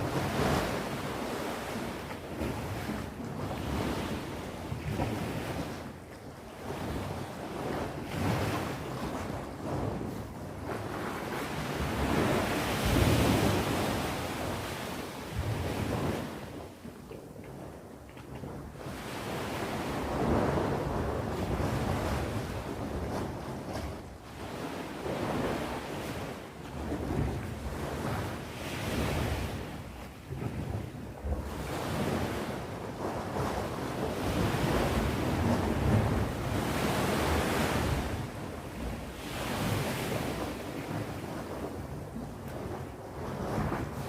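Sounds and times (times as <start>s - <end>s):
sea waves breaking on shore: 0.0s - 44.0s.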